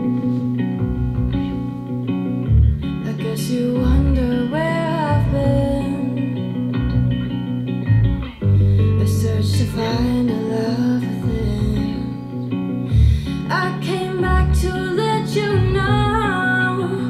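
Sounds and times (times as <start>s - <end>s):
song with guitar bass and vocals: 0.0s - 17.0s.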